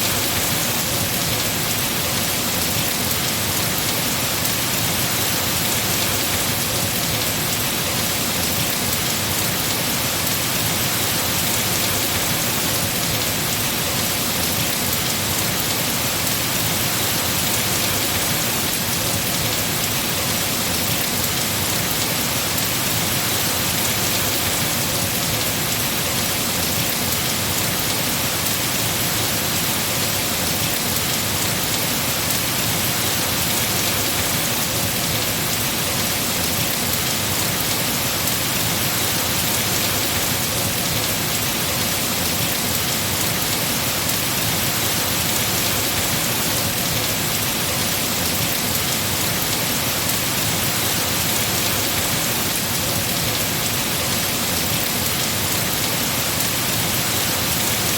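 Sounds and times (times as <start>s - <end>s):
heavy rain on foliage: 0.0s - 57.9s.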